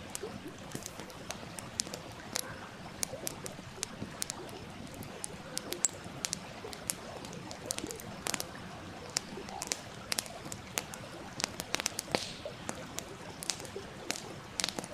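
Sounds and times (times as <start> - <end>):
stream babbling: 0.0 - 14.9
wood fire crackling and popping: 0.0 - 14.9.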